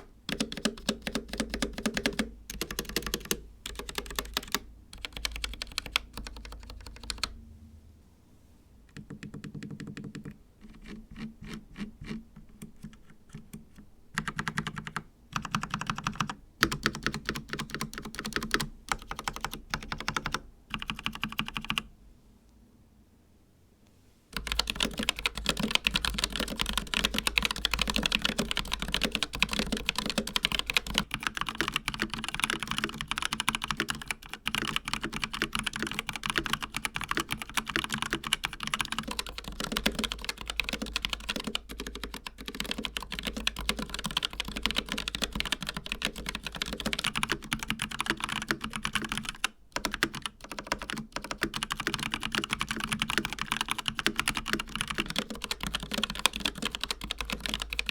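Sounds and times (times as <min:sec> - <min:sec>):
fast typing on mechanical keyboard: 0:00.0 - 0:07.4, 0:08.9 - 0:21.9, 0:24.4 - 0:57.9.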